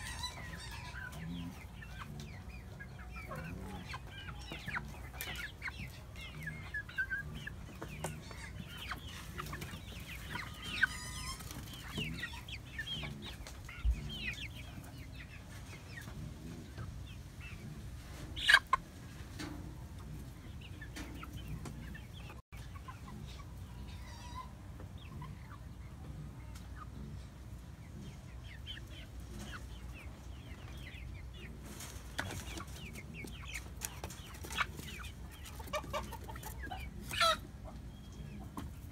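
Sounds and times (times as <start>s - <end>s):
hens clucking and chattering: 0.0s - 38.9s.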